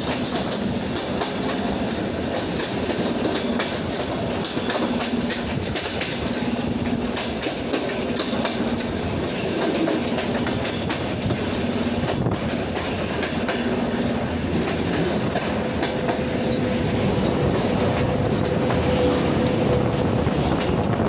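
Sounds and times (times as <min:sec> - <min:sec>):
train wheels clattering over rails: 0:00.0 - 0:21.0.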